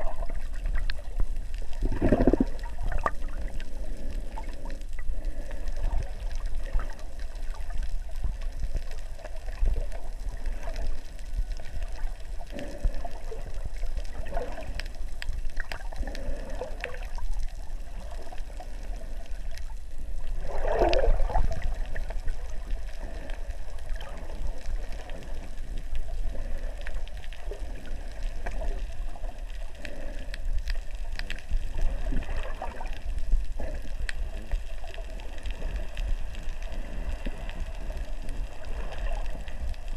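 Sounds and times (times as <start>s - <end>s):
muffled underwater rumble: 0.0s - 39.9s
underwater gurgles and bubbling: 0.0s - 39.9s.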